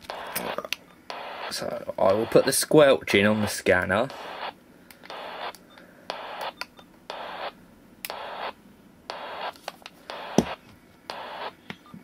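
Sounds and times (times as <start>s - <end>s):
radio static bursts: 0.0s - 11.6s.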